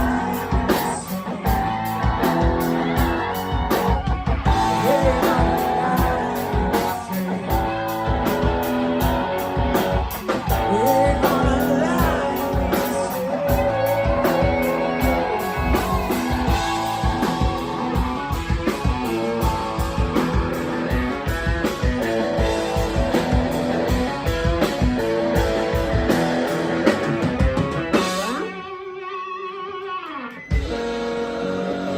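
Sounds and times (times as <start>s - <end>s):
blues-rock band playing: 0.0s - 31.9s
electric guitar bending notes: 0.0s - 31.9s.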